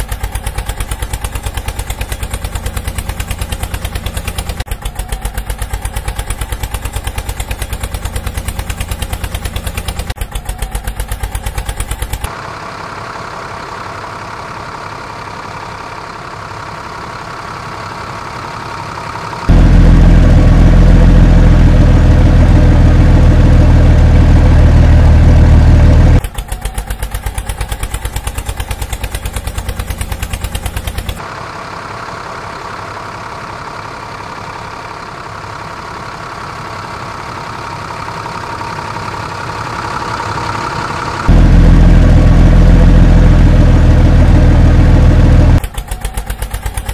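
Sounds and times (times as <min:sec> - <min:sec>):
deep truck engine rumble: 0:00.0 - 0:46.9
diesel tractor chugging: 0:00.0 - 0:46.9
steady engine hum: 0:00.0 - 0:46.9.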